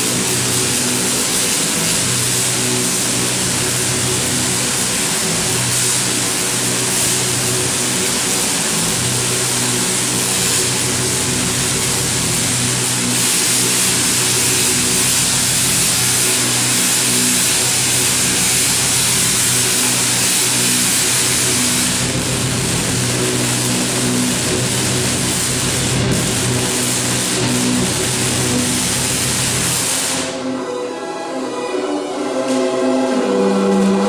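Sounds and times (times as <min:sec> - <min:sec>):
tesla coil buzzing crackle: 0:00.0 - 0:30.6.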